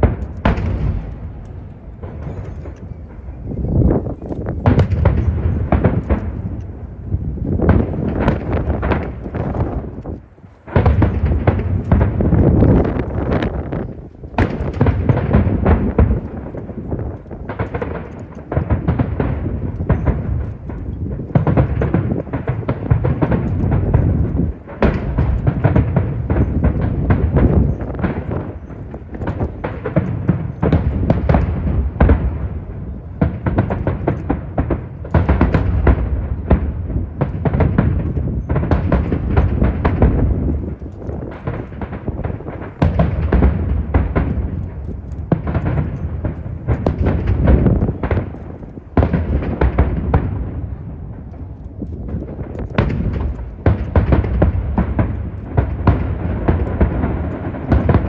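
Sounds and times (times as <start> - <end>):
fireworks bursting and crackling: 0.0 - 58.0
wind rumble on microphone: 0.0 - 58.0.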